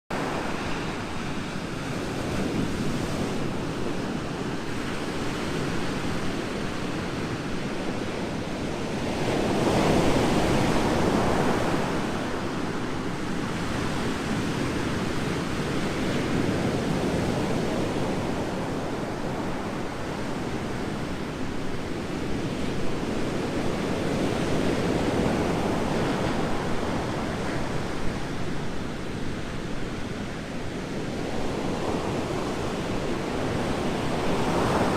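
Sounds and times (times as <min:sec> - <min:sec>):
ocean waves breaking on beach: 0:00.1 - 0:34.9.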